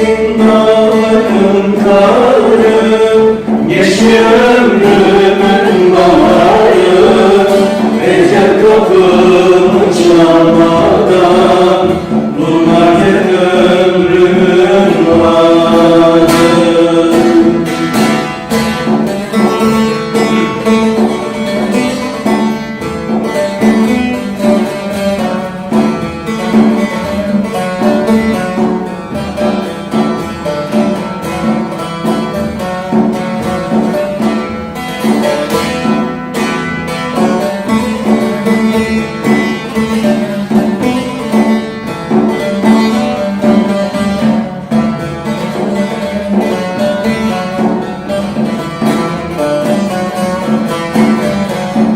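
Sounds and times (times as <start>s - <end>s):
plucked string melody: 0.0s - 51.9s.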